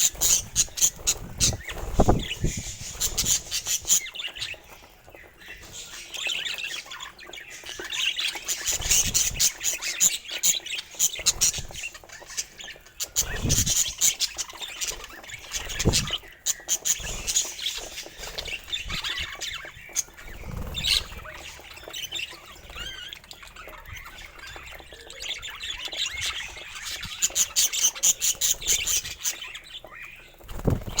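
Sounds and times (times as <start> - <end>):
budgerigars chirping and chattering: 0.0 - 31.0.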